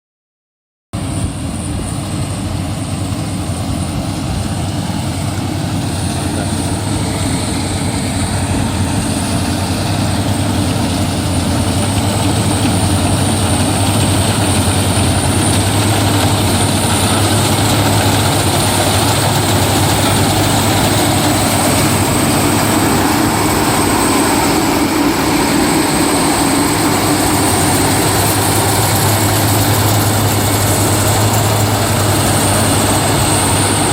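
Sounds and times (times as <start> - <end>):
thin high whine: 1.0 - 33.9
harvester engine under load: 2.3 - 33.9.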